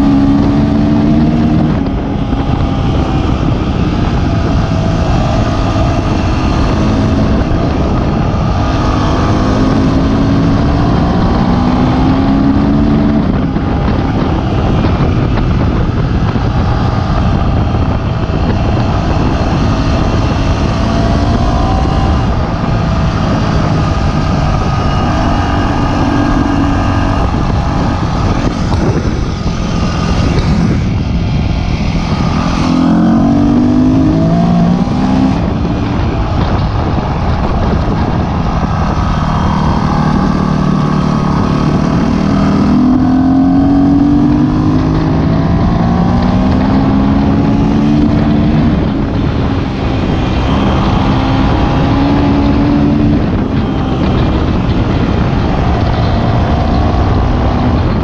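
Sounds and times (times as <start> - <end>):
dirt bike engine: 0.0 - 58.0
wind and ground noise rumble: 0.0 - 58.0.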